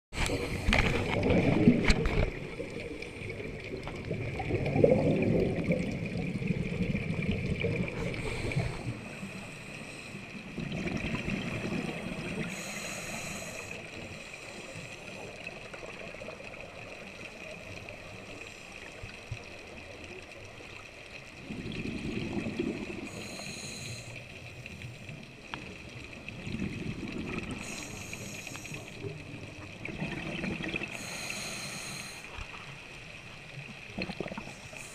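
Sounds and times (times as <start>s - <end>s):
regulator bubbles gurgling: 0.2s - 34.9s.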